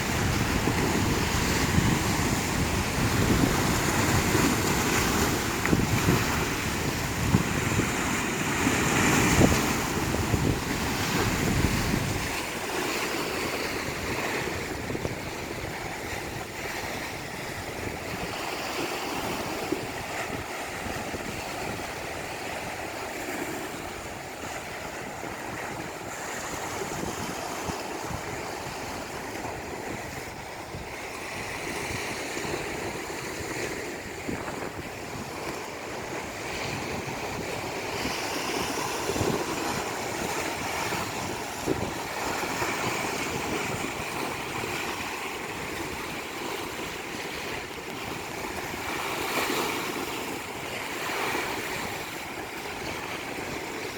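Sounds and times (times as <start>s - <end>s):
sea waves breaking on beach: 0.0s - 53.9s
wind buffeting microphone: 0.0s - 53.9s.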